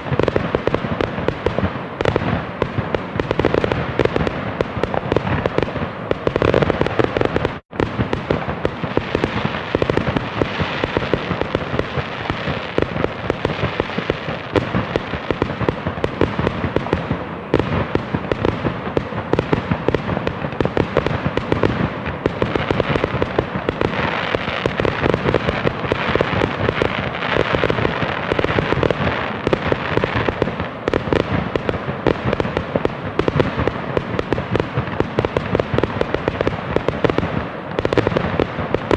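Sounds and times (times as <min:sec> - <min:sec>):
fireworks crackling pops and bangs: 0:00.0 - 0:38.9.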